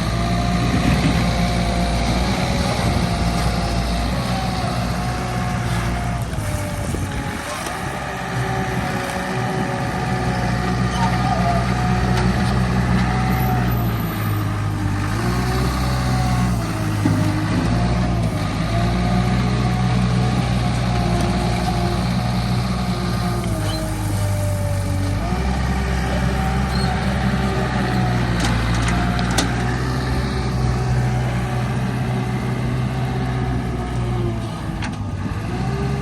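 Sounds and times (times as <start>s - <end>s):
bulldozer diesel engine: 0.0s - 36.0s.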